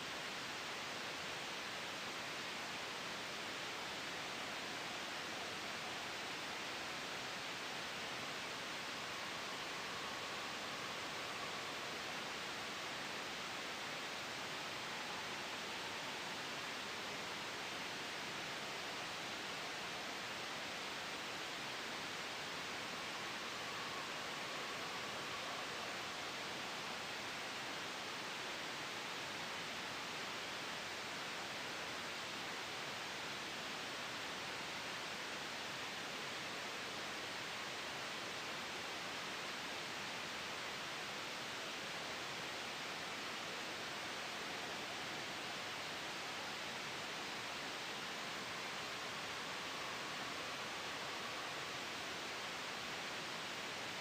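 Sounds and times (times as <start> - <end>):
gentle wind: 0.0 - 54.0
soft white noise: 0.0 - 54.0.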